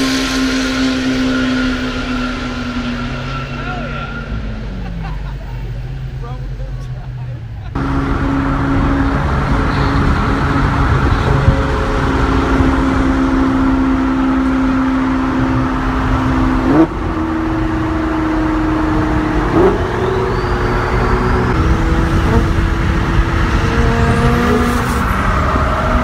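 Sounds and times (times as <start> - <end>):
car engine revving: 0.0 - 26.0
road and tyre noise: 0.0 - 26.0.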